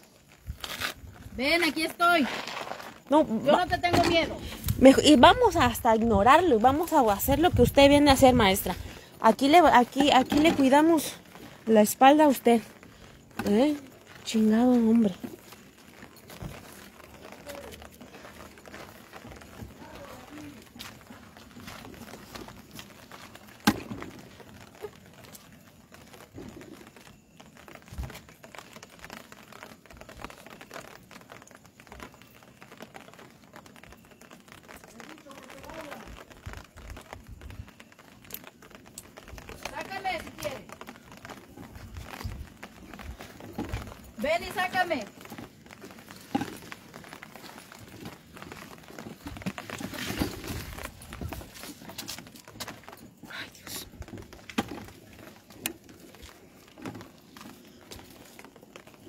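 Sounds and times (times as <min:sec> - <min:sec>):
rustling and scuffing: 0:00.0 - 0:05.4, 0:06.1 - 0:31.1, 0:39.2 - 0:59.0
footsteps: 0:00.0 - 0:33.5, 0:36.0 - 0:59.0.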